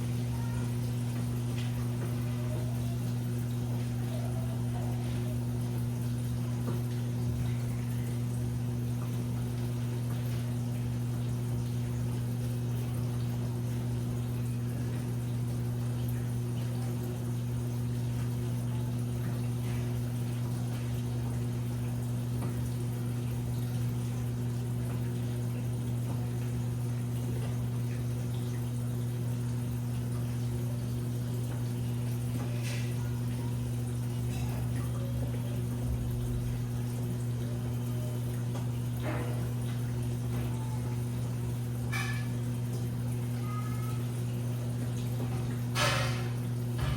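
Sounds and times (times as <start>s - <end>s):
washing machine running: 0.0s - 46.9s.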